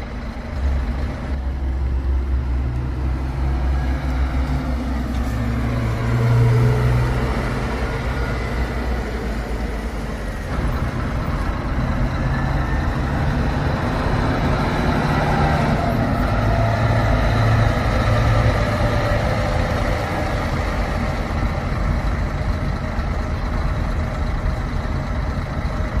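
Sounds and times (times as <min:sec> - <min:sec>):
coach engine rumbling: 0:00.0 - 0:26.0.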